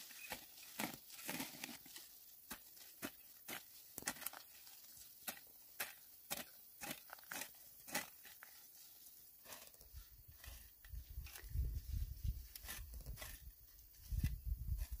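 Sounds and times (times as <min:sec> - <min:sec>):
hoe chopping dry soil: 0:00.0 - 0:08.7, 0:09.4 - 0:11.7, 0:12.3 - 0:15.0.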